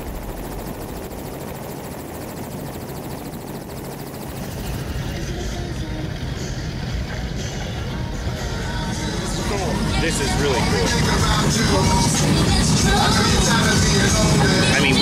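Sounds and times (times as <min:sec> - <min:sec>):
pulsing engine rumble: 0:00.0 - 0:15.0.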